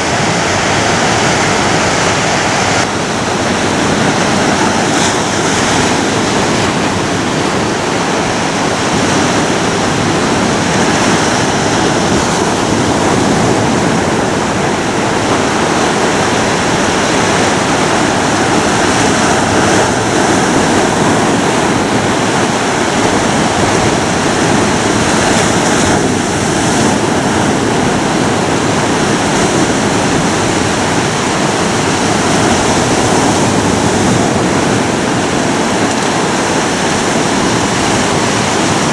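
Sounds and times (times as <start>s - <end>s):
ocean waves washing on shore: 0.0s - 38.9s.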